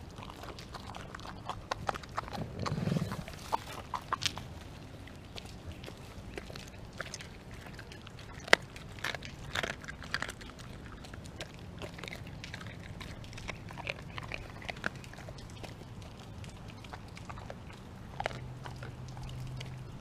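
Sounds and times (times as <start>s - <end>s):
bone cracking: 0.0s - 20.0s
dog chewing raw chicken: 0.0s - 20.0s.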